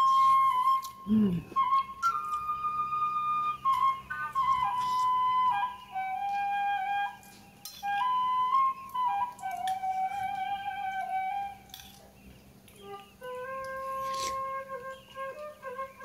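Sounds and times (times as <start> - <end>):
slow melody of long held notes: 0.0 - 16.0.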